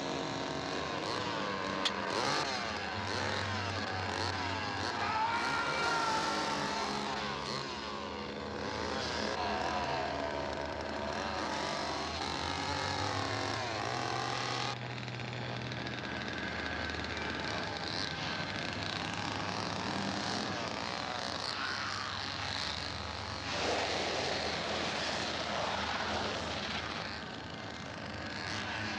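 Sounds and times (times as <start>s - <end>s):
chainsaw engine revving: 0.0s - 28.9s.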